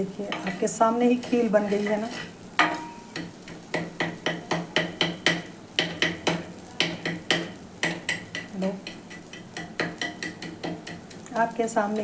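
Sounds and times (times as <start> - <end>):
spoon scraping and knocking a pan: 0.3 - 11.2.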